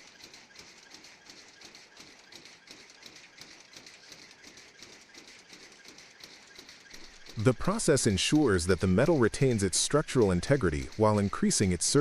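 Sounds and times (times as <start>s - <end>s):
machine clicking strokes: 0.0s - 12.0s.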